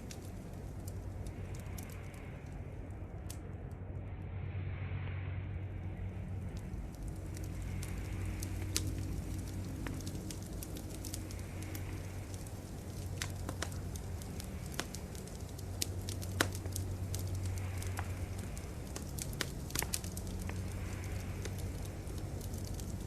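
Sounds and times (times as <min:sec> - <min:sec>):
wood fire crackling: 0:00.0 - 0:03.9, 0:05.6 - 0:23.0
low hum: 0:00.0 - 0:23.0.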